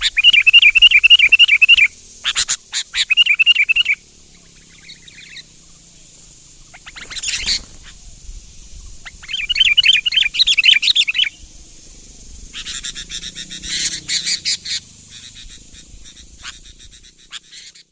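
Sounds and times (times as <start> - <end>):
bulbul singing: 0.0 - 17.9.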